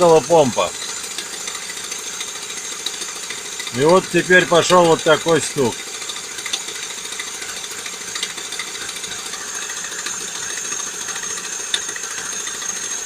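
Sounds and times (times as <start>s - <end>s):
wheel knocking against pulley: 0.0s - 13.0s.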